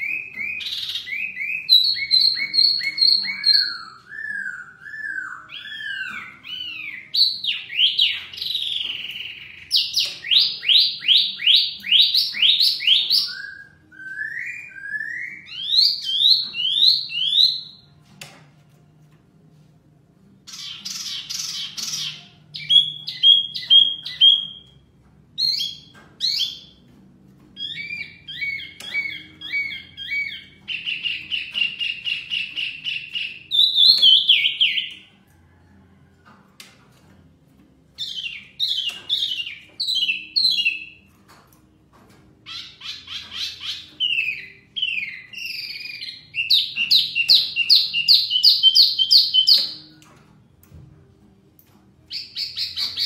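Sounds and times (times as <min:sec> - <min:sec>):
songbirds singing whistled phrases: 0:00.0 - 0:17.9, 0:20.5 - 0:26.8, 0:27.5 - 0:35.1, 0:38.0 - 0:41.1, 0:42.4 - 0:50.1, 0:52.1 - 0:53.0.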